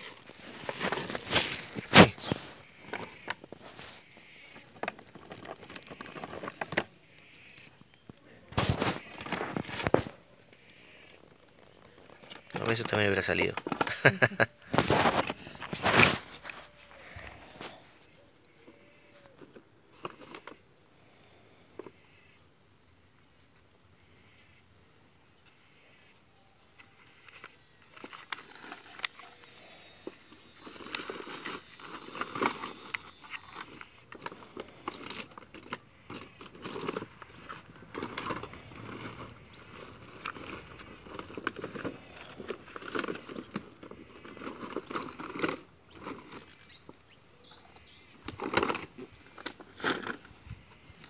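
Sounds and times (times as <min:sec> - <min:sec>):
plastic toy rustling and clicking: 0:00.0 - 0:17.0, 0:18.7 - 0:20.6, 0:26.6 - 0:47.2, 0:48.2 - 0:51.0.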